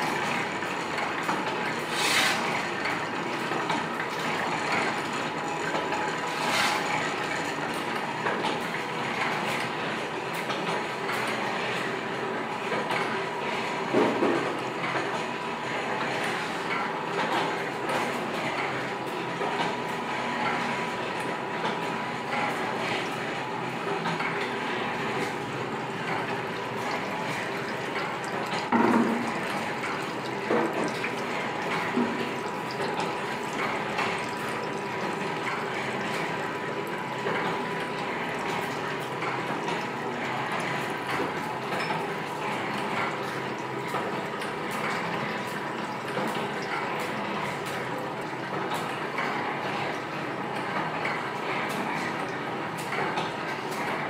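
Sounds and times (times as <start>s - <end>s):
oil press machine running: 0.0s - 54.0s.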